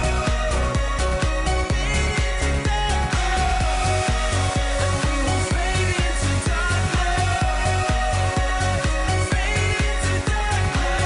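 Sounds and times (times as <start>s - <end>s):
pop dance music: 0.0s - 11.0s.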